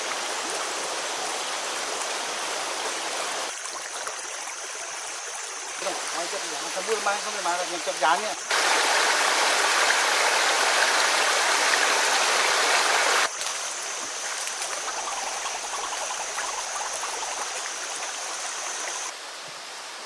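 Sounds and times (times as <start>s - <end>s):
water rushing over rocks: 0.0s - 5.2s, 5.8s - 19.1s.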